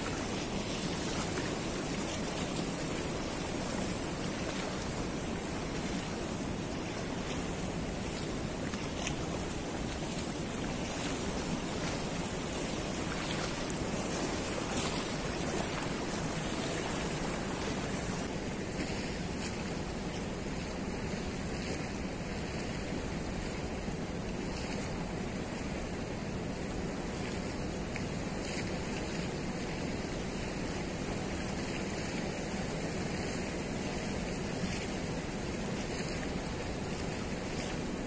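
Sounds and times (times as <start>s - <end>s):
turbulent river water rushing: 0.0s - 23.8s, 24.5s - 38.0s.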